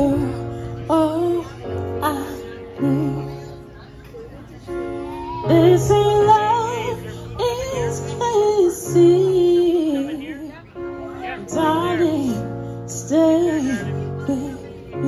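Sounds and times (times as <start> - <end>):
woman singing with vibrato: 0.0 - 3.6, 5.2 - 10.7, 11.4 - 15.0.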